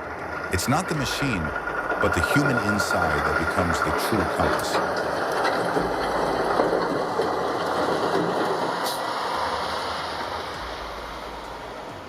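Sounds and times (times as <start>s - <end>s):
bulldozer pushing snow: 0.0s - 12.0s.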